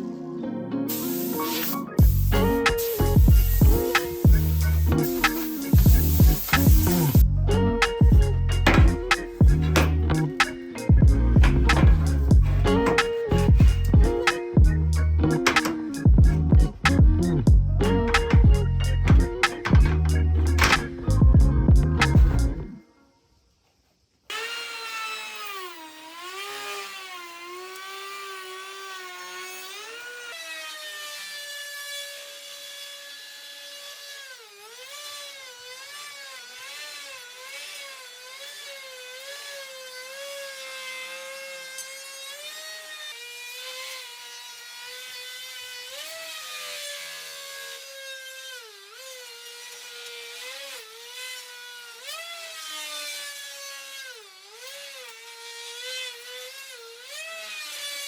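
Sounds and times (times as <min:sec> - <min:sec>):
power tool whining into wood: 0:00.9 - 0:17.0, 0:17.9 - 0:21.2, 0:24.3 - 0:58.0.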